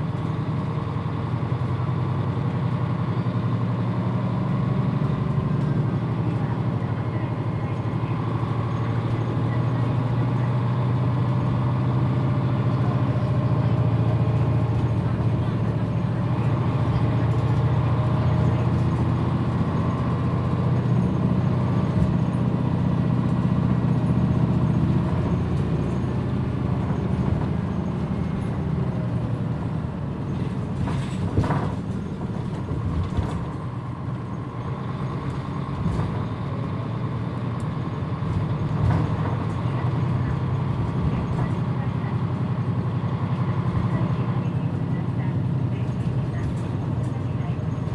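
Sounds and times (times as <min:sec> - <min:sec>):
bus engine drone: 0:00.0 - 0:47.9.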